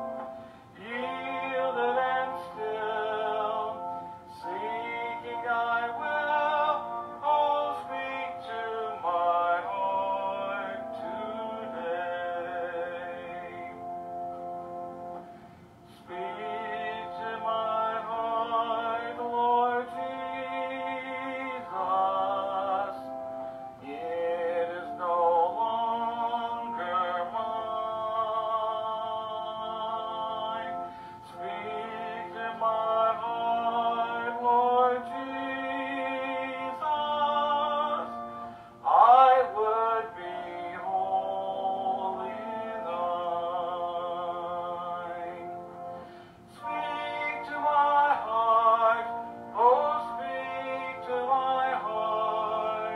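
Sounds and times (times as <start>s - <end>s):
church organ playing a hymn: 0.0s - 52.9s
man singing: 0.8s - 14.0s, 15.9s - 23.2s, 23.8s - 52.9s.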